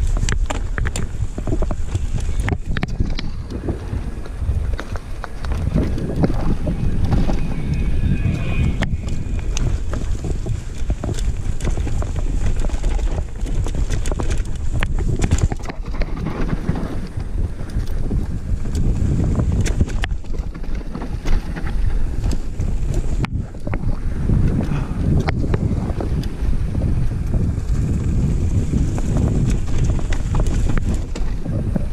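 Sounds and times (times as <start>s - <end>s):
bike clicking and rattling: 0.0s - 31.9s
tyres rolling on dirt: 0.0s - 31.9s
wind buffeting microphone: 0.0s - 31.9s.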